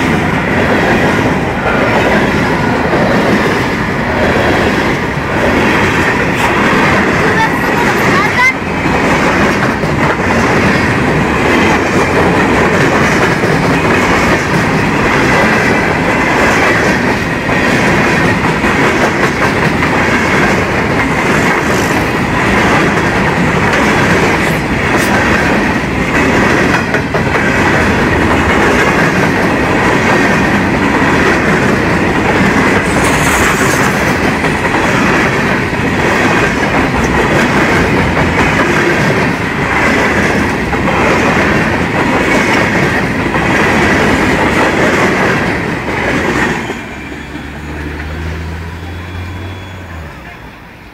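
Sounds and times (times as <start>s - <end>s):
wheels clacking over rail joints: 0.0s - 48.5s
train wheels rumbling on rails: 0.0s - 50.9s.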